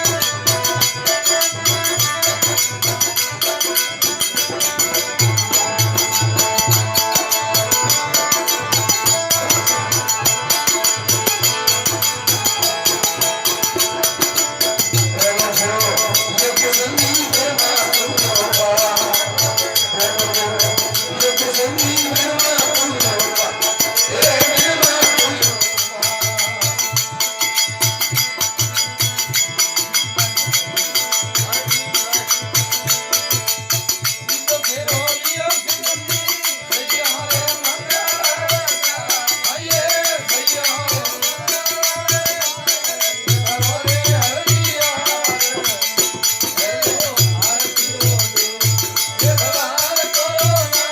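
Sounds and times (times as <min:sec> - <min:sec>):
person singing: 0:00.0 - 0:28.3, 0:31.4 - 0:50.9
jingling hand percussion: 0:00.0 - 0:50.9
percussion beat: 0:00.0 - 0:50.9.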